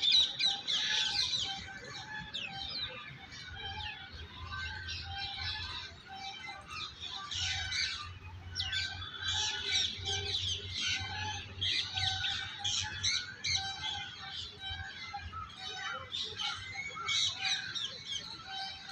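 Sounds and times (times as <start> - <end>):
small birds chirping chorus: 0.0 - 18.9.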